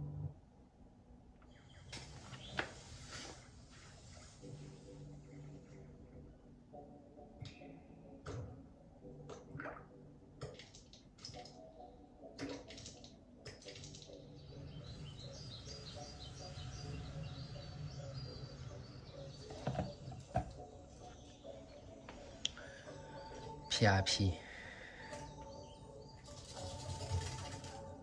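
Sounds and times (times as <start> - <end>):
faint birdsong chirps: 0.0 - 28.0.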